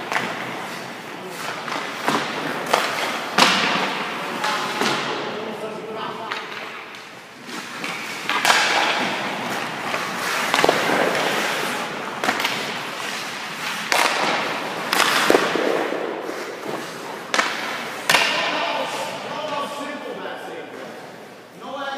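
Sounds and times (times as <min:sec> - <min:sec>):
skates scraping on ice: 0:00.0 - 0:05.3, 0:06.2 - 0:20.0
sticks striking pucks: 0:00.0 - 0:05.4, 0:06.2 - 0:20.0
pucks hitting pads and boards: 0:00.0 - 0:21.9.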